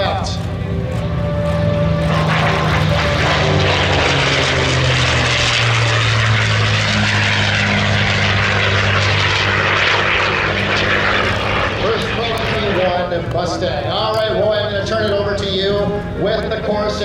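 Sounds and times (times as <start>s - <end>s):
propeller plane engine passing: 0.0s - 17.0s.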